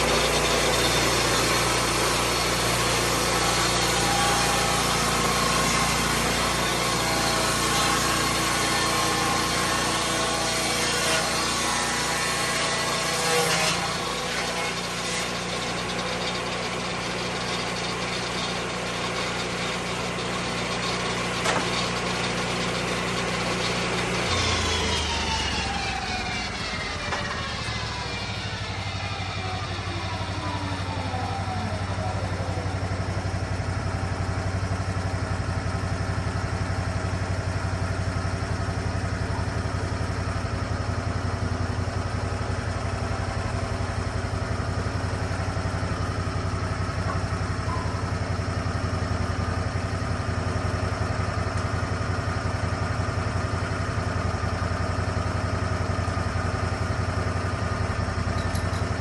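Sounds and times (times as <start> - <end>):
sawmill engine whining: 0.0 - 59.0.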